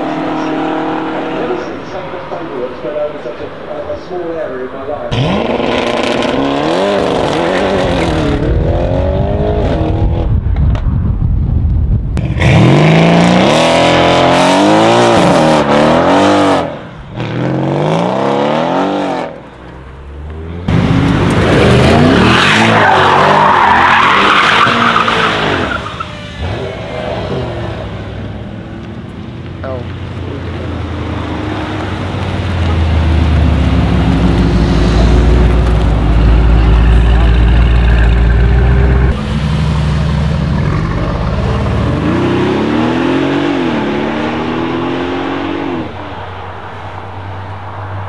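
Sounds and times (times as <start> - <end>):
cars accelerating hard: 0.0 - 10.4, 12.2 - 28.7, 29.6 - 48.0.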